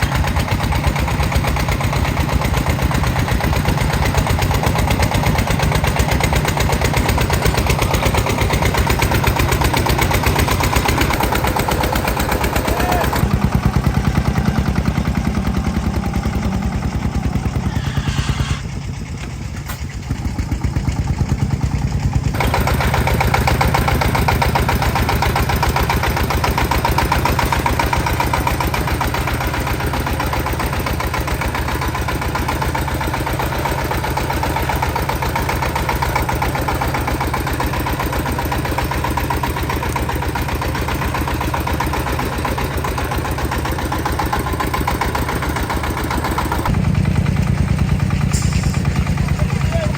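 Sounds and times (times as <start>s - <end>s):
tractor engine chugging: 0.0s - 49.9s.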